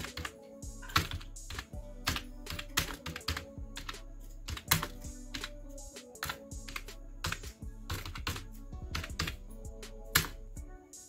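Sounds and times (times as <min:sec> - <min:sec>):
keyboard typing clicks: 0:00.0 - 0:09.4.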